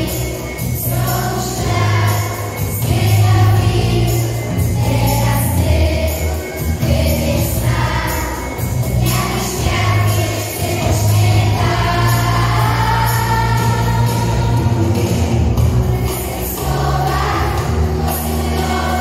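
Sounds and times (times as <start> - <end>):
children's choir singing: 0.0 - 19.0
instrumental backing music: 0.0 - 19.0.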